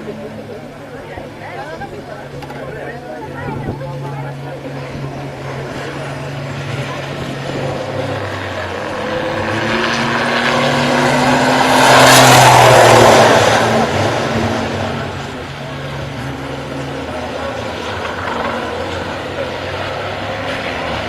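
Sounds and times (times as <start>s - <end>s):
truck engine passing by: 0.0s - 21.0s.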